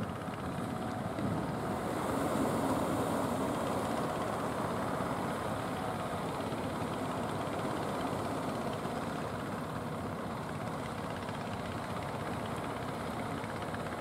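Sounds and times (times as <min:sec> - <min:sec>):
boat engines droning: 0:00.0 - 0:14.0.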